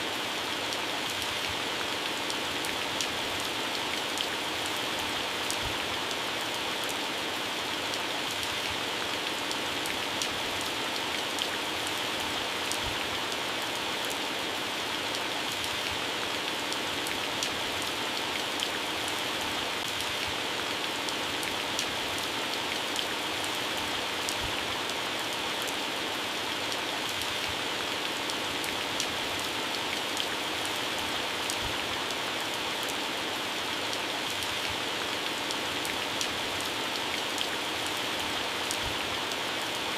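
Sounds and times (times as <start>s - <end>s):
heavy rain on plants: 0.0s - 39.9s.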